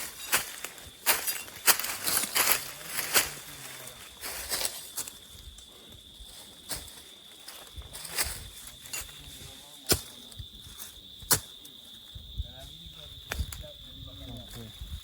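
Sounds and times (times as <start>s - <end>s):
footsteps on rough ground: 0.0s - 15.0s
high-pitched insect drone: 0.0s - 15.0s.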